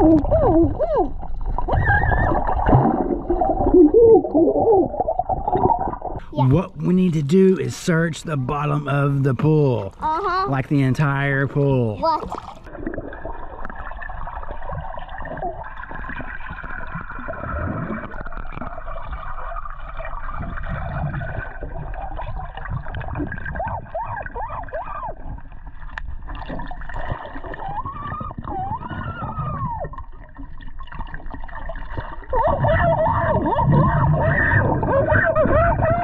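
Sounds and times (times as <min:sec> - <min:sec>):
muffled underwater gurgling: 0:00.0 - 0:25.6, 0:27.0 - 0:30.3, 0:32.3 - 0:36.0.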